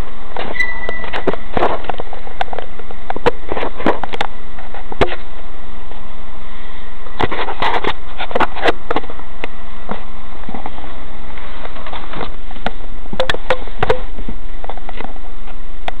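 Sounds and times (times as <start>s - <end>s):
sharp clicks and knocks: 0.4s - 5.3s, 7.2s - 10.8s, 11.4s - 16.0s.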